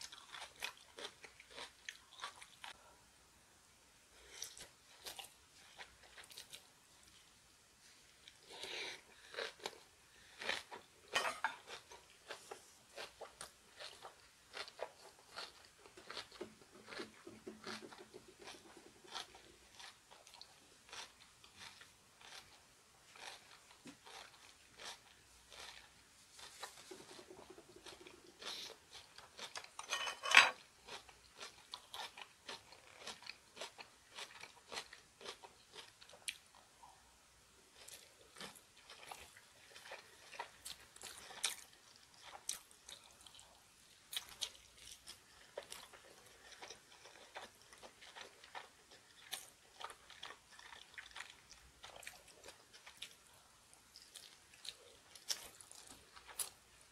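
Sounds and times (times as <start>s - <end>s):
chewing and crunching food: 0.0s - 2.9s, 4.2s - 37.0s, 37.6s - 56.9s.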